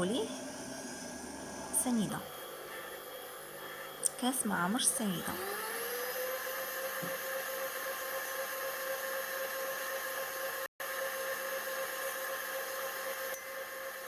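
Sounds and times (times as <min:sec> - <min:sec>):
electric stand mixer whining: 0:00.0 - 0:14.0.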